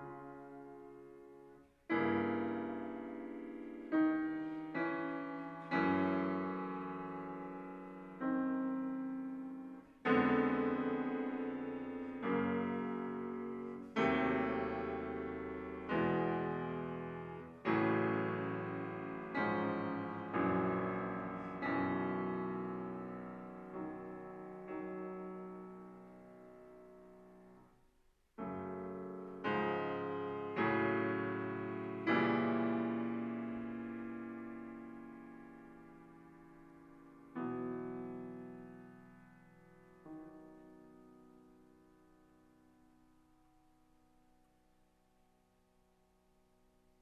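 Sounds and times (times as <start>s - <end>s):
piano playing slow chords: 0.0s - 27.8s, 28.4s - 43.6s.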